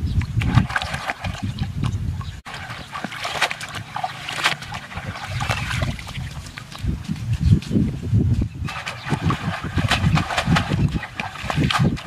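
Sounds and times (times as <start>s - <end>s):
water splashing: 0.3s - 7.0s, 8.6s - 12.0s.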